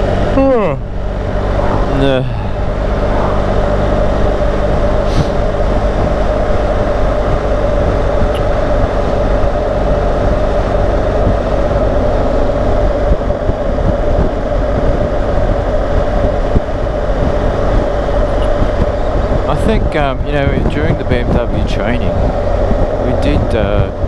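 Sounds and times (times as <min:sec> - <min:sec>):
motorcycle engine drone: 0:00.0 - 0:24.0
wind and road noise: 0:00.0 - 0:24.0.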